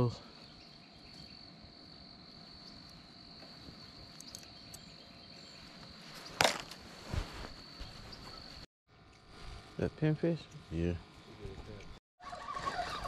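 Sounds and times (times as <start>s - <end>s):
insects calling: 0.0s - 13.0s.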